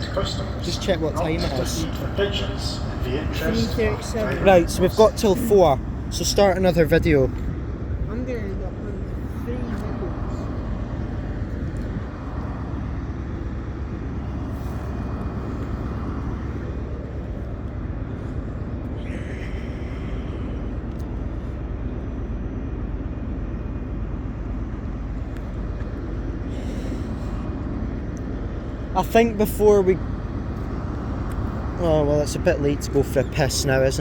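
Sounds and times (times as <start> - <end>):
trains idling rumble: 0.0 - 34.0.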